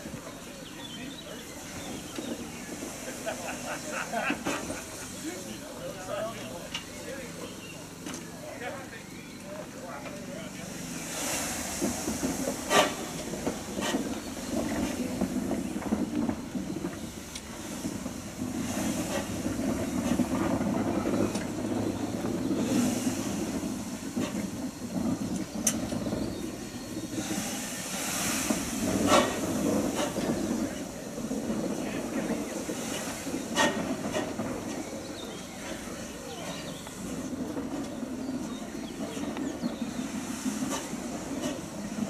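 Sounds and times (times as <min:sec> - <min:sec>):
steam hissing: 0:00.0 - 0:42.0
steam locomotive rumble: 0:00.0 - 0:42.0.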